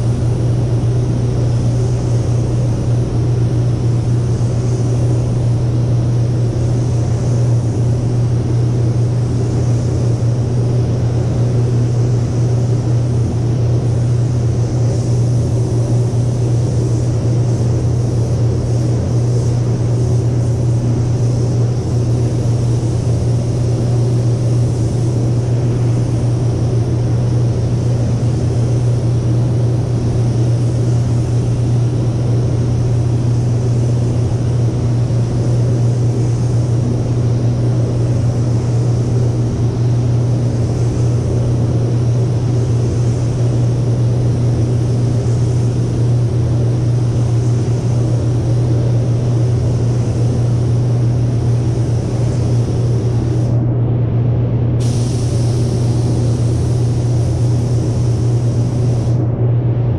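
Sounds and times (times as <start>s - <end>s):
spray gun air hiss: 0.0s - 53.6s, 54.8s - 59.3s
ventilation fans droning: 0.0s - 59.9s.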